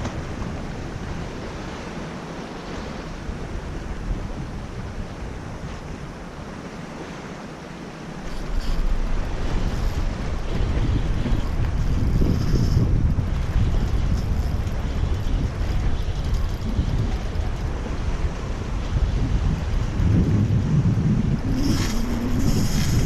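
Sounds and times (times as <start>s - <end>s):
wind buffeting microphone: 0.0s - 7.4s, 8.1s - 23.0s
surf washing on shore: 0.0s - 23.0s.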